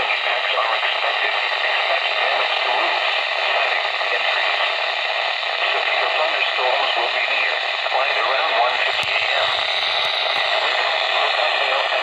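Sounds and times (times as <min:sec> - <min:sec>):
radio hiss and static: 0:00.0 - 0:12.0.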